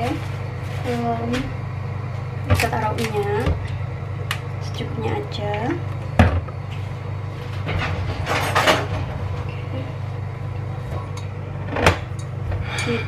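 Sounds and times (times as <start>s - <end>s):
appliance electric hum: 0.0s - 13.0s.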